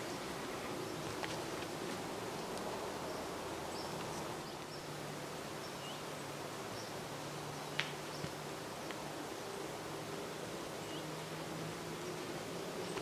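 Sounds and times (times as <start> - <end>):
steady forest hiss: 0.0 - 13.0.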